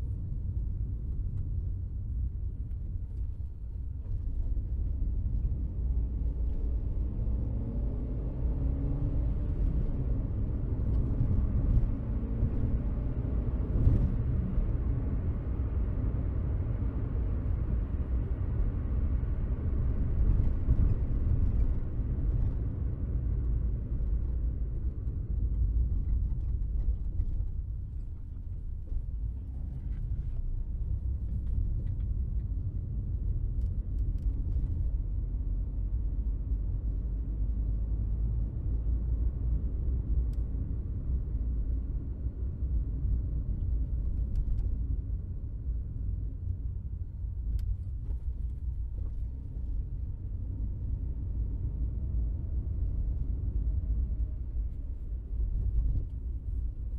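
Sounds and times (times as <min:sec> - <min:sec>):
road and engine rumble in car: 0:00.0 - 0:56.9.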